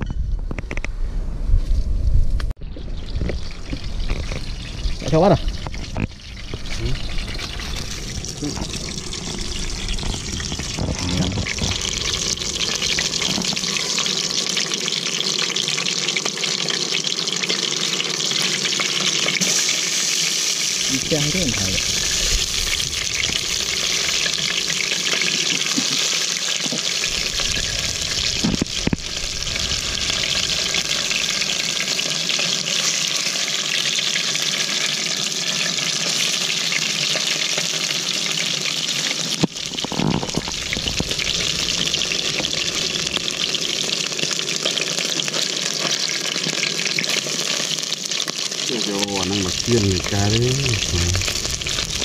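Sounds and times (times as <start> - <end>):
gas stove hissing: 3.4 - 34.6, 35.8 - 45.7, 48.7 - 52.0.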